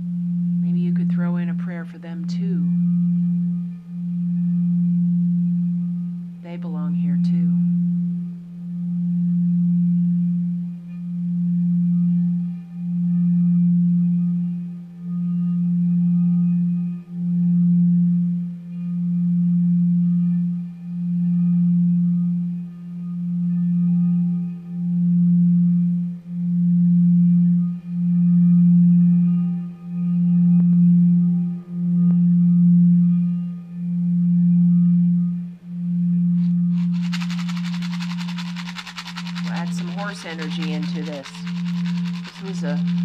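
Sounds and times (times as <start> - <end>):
singing bowl humming: 0.0 - 43.0.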